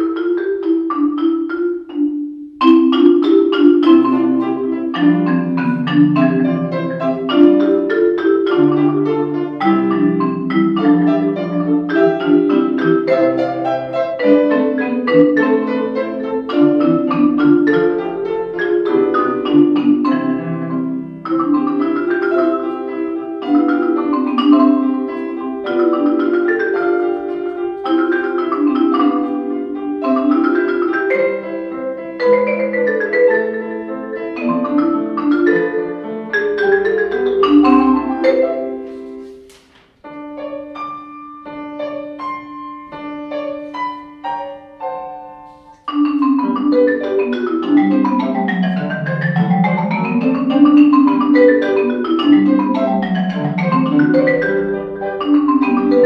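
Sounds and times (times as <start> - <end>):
grand piano: 0.0 - 56.0
marimba arpeggios: 0.0 - 56.0.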